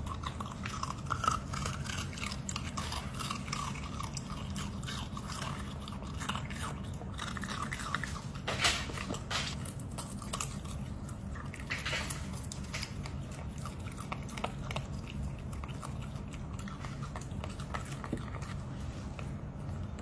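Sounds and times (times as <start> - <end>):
dog chewing vegetables: 0.0 - 20.0.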